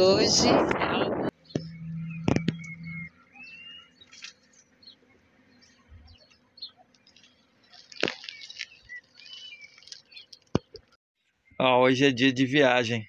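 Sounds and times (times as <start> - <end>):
small birds chirping faintly: 1.3 - 13.0.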